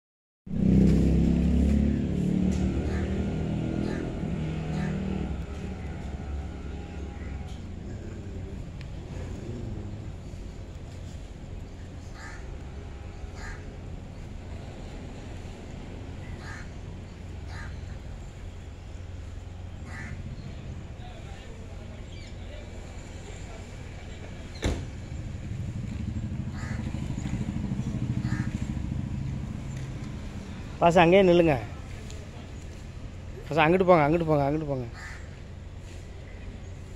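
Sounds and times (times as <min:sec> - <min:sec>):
vehicle engine running: 0:00.5 - 0:36.9.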